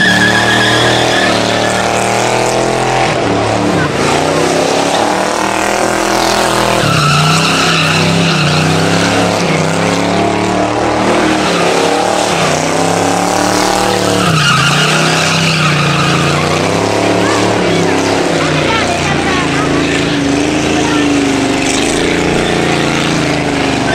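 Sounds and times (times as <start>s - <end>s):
car engine revving hard: 0.0s - 23.9s
tyres squealing: 0.0s - 23.9s.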